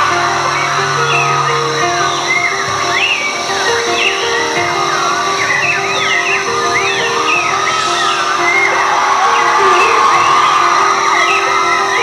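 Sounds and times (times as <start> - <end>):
crowd cheering and screaming: 0.0 - 12.0.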